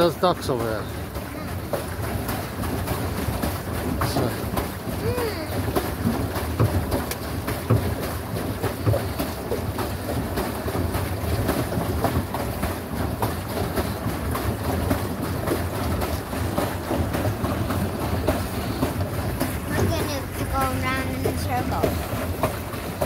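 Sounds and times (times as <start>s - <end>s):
paddle wheel churning water: 0.0s - 23.0s.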